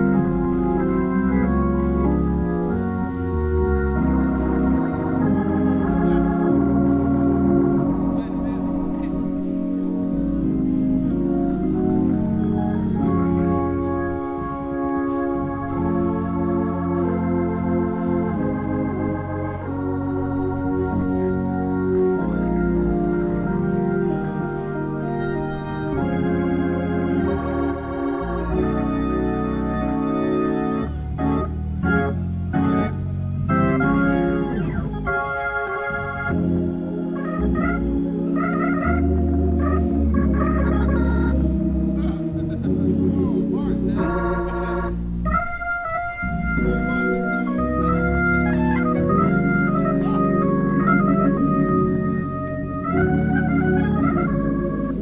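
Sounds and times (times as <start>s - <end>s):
low bass line: 0.0s - 55.0s
organ playing chords: 0.0s - 55.0s.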